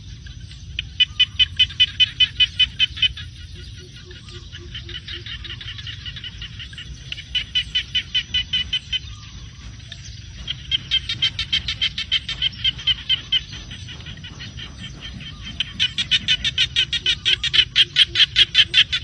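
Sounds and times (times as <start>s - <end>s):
animal chirping: 0.7s - 19.0s.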